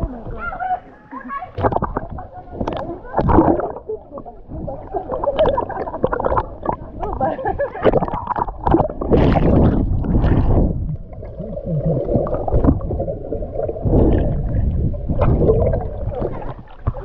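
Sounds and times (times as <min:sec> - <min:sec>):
water splashing: 0:01.0 - 0:17.0
underwater rumbling and gurgling: 0:01.5 - 0:17.0.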